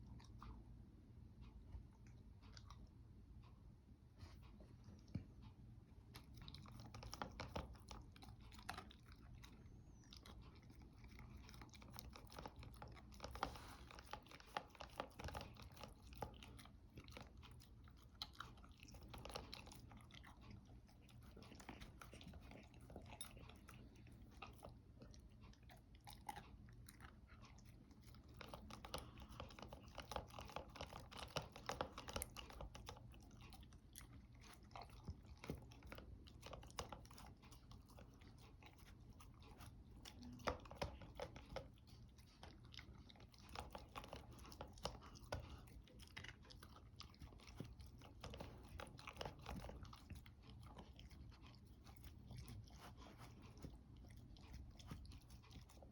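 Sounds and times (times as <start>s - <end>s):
dog crunching food: 6.1s - 55.9s.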